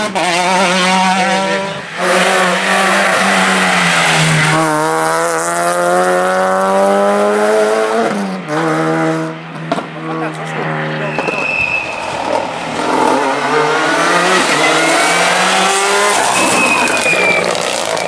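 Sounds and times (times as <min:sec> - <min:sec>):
rally car engines revving high: 0:00.0 - 0:18.0.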